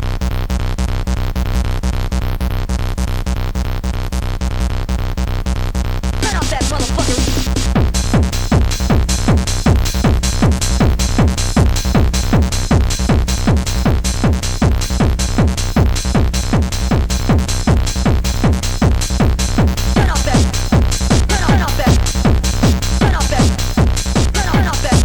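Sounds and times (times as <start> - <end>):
bass and synth line: 0.0 - 25.0
fast techno kick drum: 0.0 - 25.0.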